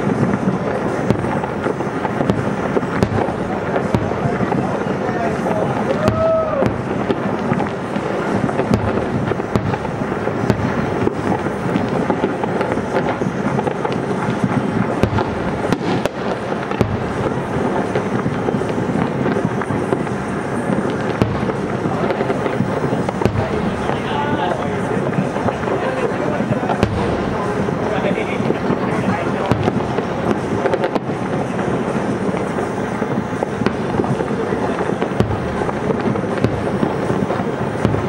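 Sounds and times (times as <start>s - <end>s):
fireworks bursting: 0.0s - 38.0s.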